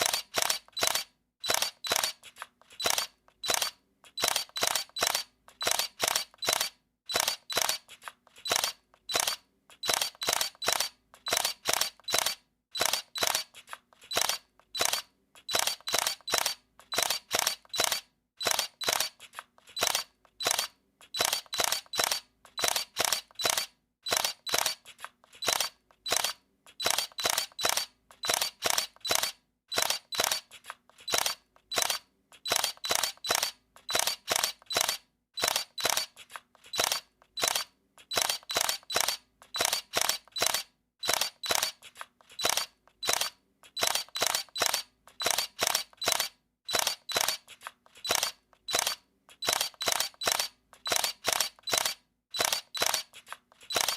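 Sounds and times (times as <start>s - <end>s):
camera shutter double clicks: 0.0s - 19.2s, 19.8s - 41.8s, 42.4s - 53.9s.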